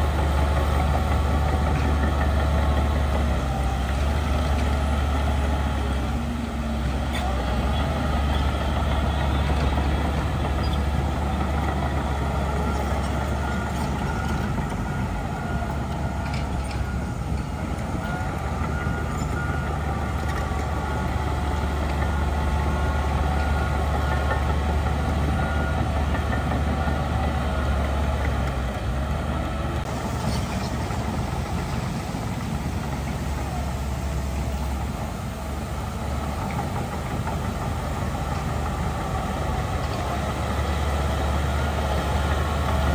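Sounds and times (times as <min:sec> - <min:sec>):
diesel machinery engine rumble: 0:00.0 - 0:42.9.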